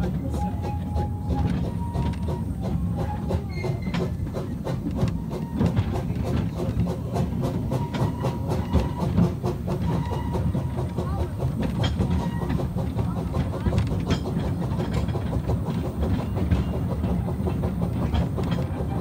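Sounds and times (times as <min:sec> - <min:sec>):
train rumble: 0:00.0 - 0:19.0
wheels clicking over rail joints: 0:00.0 - 0:19.0.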